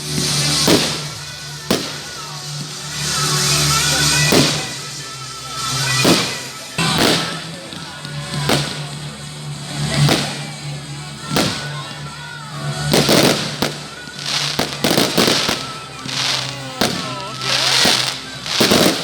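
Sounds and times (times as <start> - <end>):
fireworks bangs: 0.0 - 19.0
fireworks crackling bursts: 0.0 - 19.0.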